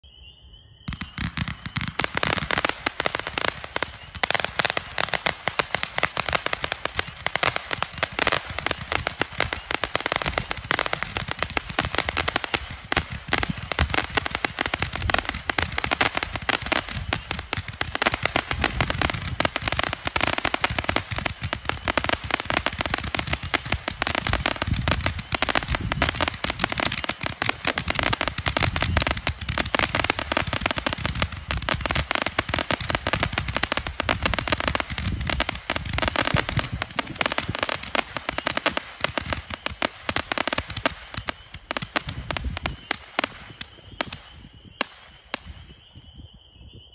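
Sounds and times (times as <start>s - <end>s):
firework launch pops and crackling: 0.9s - 46.0s.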